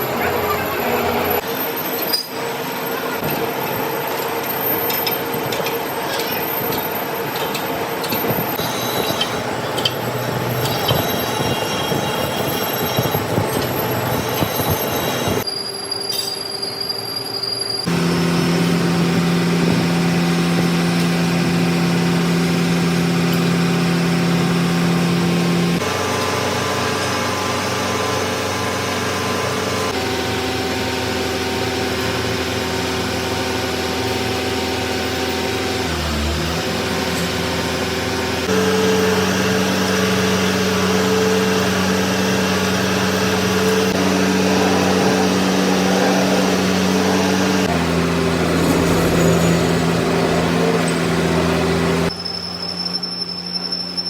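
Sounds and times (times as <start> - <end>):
metalworking machine humming: 0.0 - 17.2, 17.8 - 54.0.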